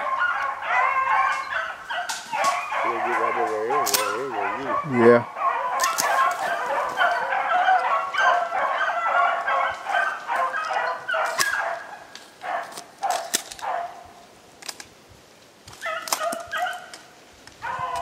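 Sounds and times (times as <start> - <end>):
dogs baying in chorus: 0.0 - 14.2, 15.8 - 17.0, 17.6 - 18.0.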